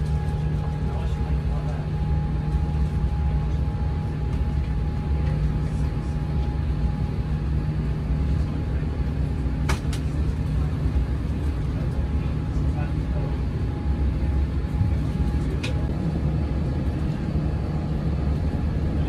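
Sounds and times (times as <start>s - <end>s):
airplane cabin engine roar: 0.0s - 19.0s.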